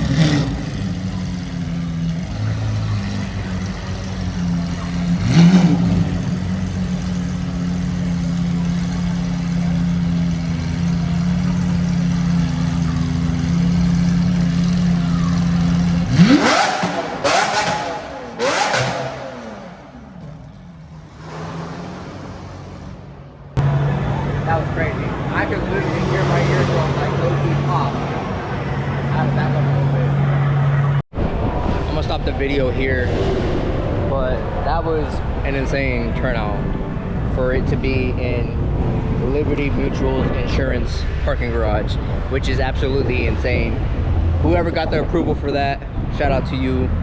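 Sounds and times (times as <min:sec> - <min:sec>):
car engine idling and revving: 0:00.0 - 0:31.2, 0:32.8 - 0:47.0.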